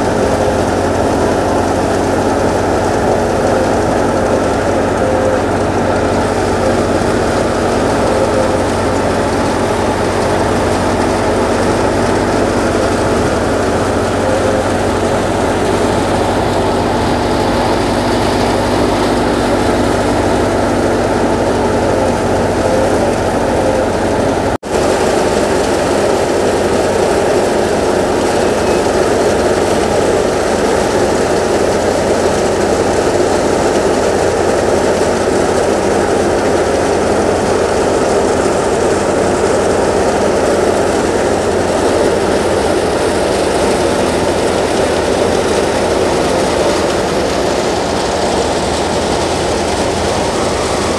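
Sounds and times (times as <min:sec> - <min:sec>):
tractor engine: 0:00.0 - 0:50.9
wheat thresher running: 0:00.0 - 0:50.9.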